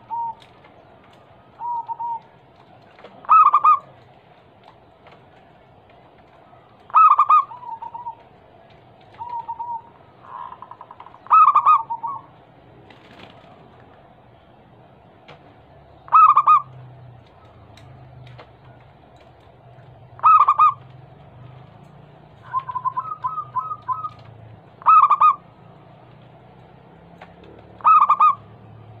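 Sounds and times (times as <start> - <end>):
dove cooing: 0.0 - 14.8, 15.4 - 29.0.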